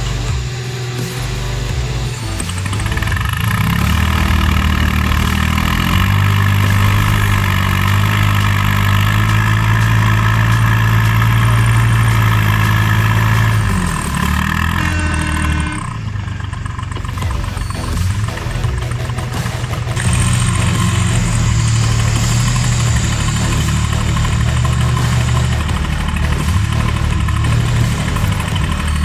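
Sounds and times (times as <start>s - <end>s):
engine whine: 0.0s - 29.0s
excavator diesel engine revving: 0.0s - 29.0s.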